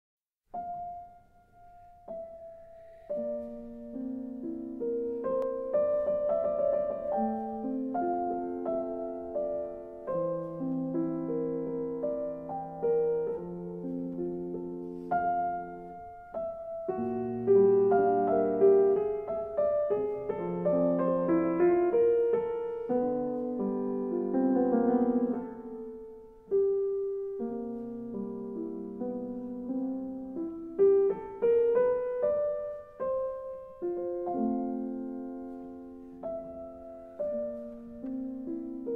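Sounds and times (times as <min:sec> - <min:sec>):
gentle piano music: 0:00.5 - 0:38.9.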